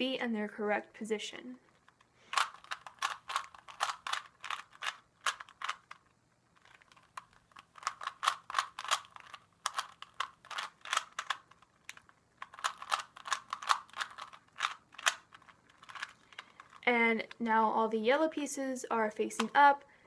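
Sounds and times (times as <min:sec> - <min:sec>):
puzzle cube plastic clicking: 0:01.7 - 0:17.5, 0:19.3 - 0:19.7.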